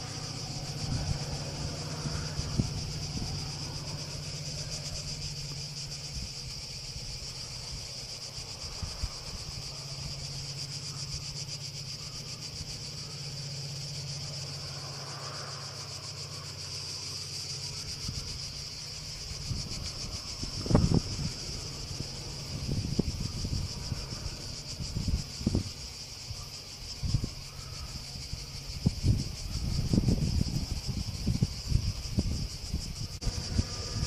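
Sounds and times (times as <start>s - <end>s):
distant diesel locomotive drone: 0.0s - 34.0s
insect chorus: 0.0s - 34.0s.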